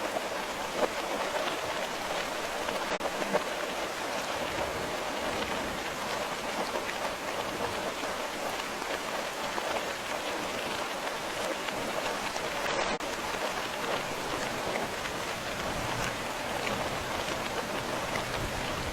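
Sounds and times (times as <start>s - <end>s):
rain falling on a surface: 0.0s - 18.9s.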